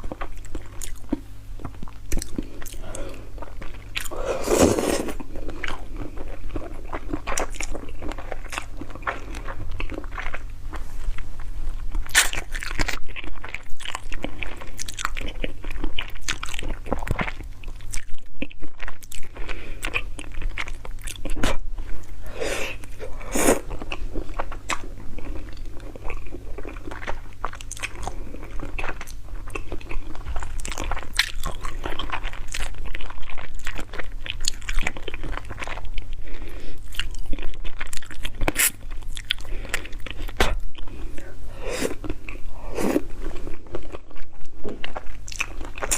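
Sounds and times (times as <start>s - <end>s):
chewing and crunching: 0.0s - 22.1s, 22.7s - 45.9s.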